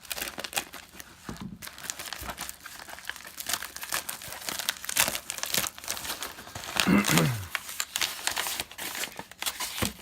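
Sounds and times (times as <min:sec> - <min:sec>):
packaging crinkling and tearing: 0:00.0 - 0:10.0.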